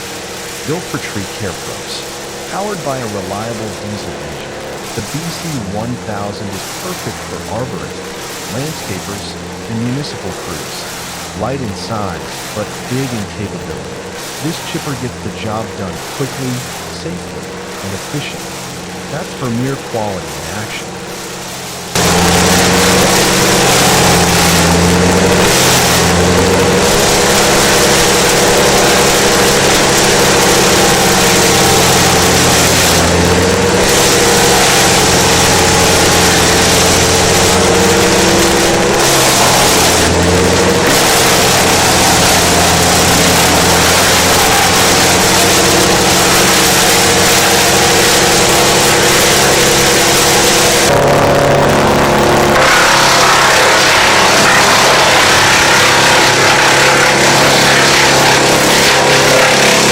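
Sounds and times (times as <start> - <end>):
hiss of material being chipped: 0.0 - 51.0, 52.5 - 59.9
wood chipper diesel engine: 0.0 - 59.9.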